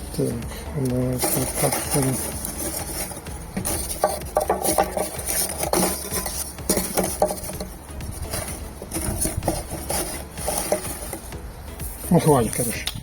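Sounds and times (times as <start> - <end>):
charcoal clinking in a metal grill: 0.0 - 13.0.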